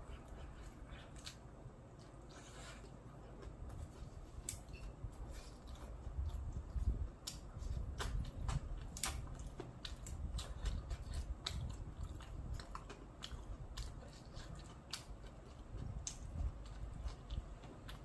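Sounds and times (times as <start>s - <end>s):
person chewing crispy food: 0.0s - 18.0s.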